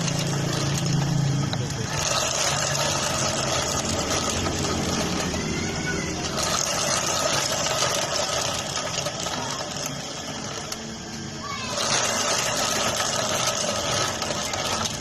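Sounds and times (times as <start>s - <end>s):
scooter engine idling: 0.0s - 15.0s.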